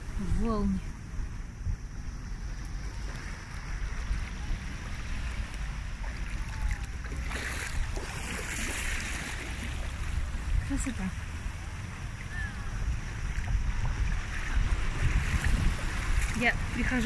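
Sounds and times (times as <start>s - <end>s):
small waves lapping on shore: 0.0s - 17.0s
wind rumbling on microphone: 0.0s - 17.0s.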